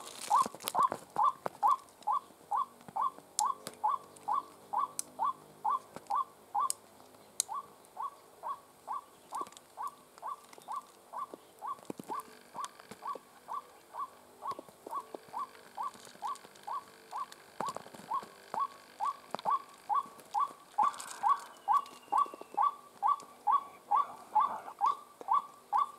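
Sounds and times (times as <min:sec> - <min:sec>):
waterhen calling: 0:00.0 - 0:06.8, 0:07.5 - 0:25.9.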